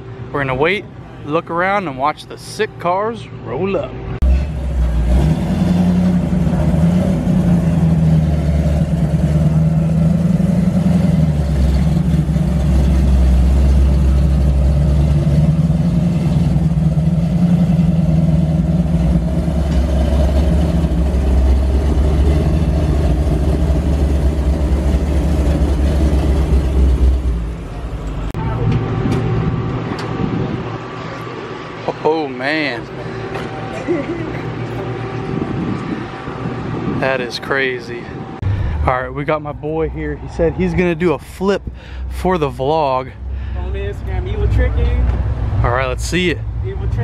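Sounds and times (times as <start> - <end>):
car engine idling: 4.2 - 47.0.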